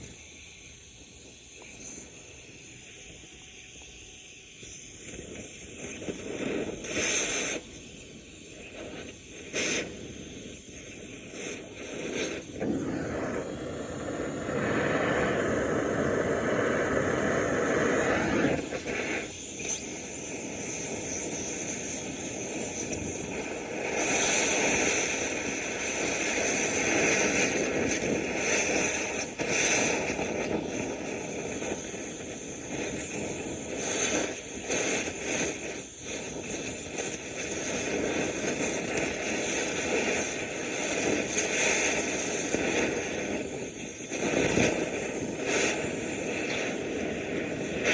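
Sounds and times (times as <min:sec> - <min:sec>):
gas cutting torch hissing: 0:00.0 - 0:47.9.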